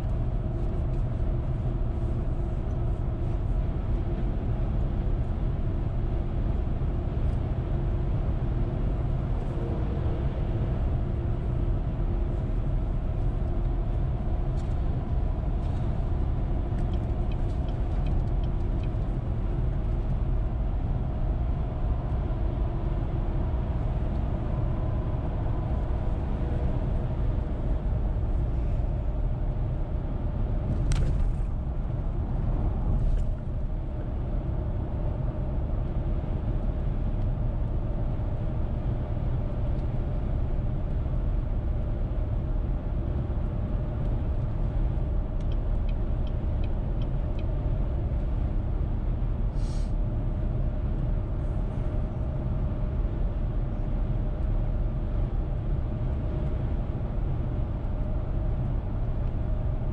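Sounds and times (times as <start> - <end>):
car engine hum: 0.0 - 59.9
road and tyre noise: 0.0 - 59.9.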